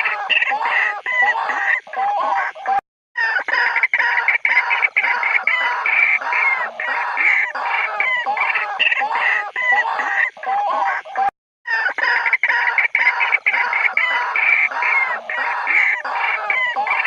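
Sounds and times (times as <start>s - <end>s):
waterhen calling rapidly: 0.0s - 17.0s.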